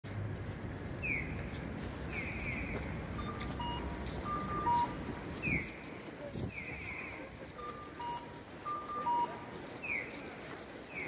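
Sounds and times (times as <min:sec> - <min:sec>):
low street hum: 0:00.0 - 0:11.0.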